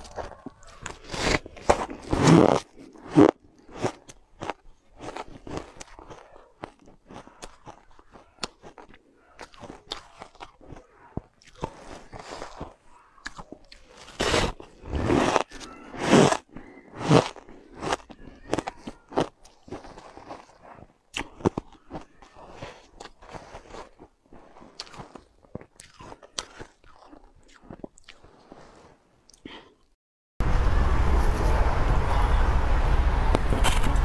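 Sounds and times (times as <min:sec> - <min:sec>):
ice crunching in mouth: 0:00.0 - 0:29.9.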